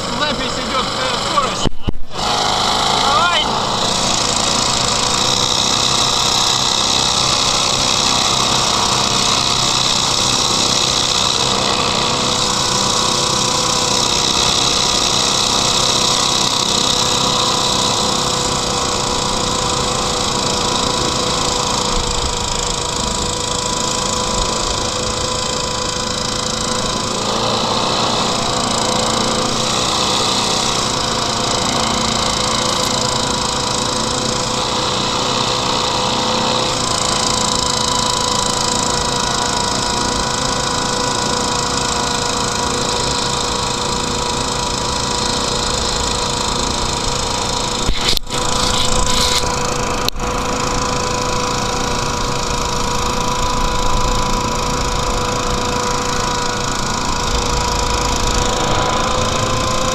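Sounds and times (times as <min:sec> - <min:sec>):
hovercraft engine and propeller: 0:00.0 - 0:59.9.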